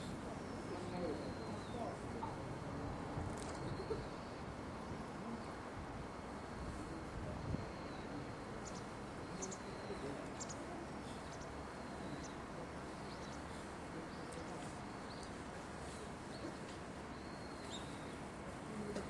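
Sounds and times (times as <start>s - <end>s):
low outdoor hiss: 0.0s - 19.0s.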